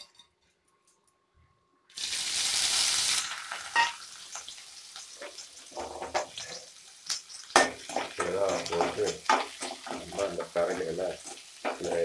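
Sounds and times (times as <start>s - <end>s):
prawns sizzling in hot oil: 1.9s - 12.0s.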